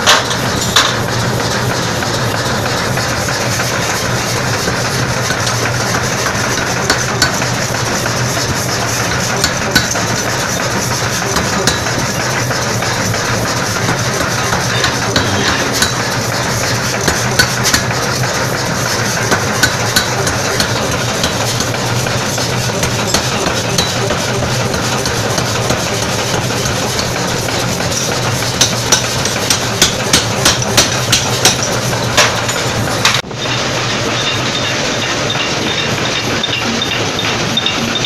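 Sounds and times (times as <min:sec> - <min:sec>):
power hammer mechanical hum: 0:00.0 - 0:38.0.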